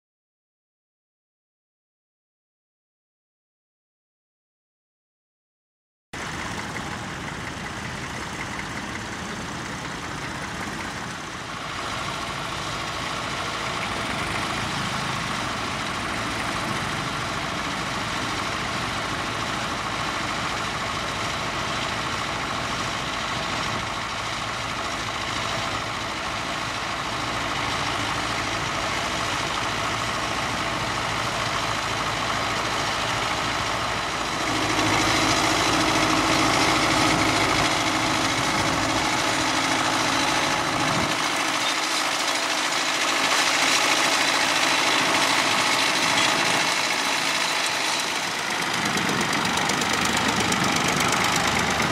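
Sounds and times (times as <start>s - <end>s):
tractor engines running: 6.2s - 51.9s.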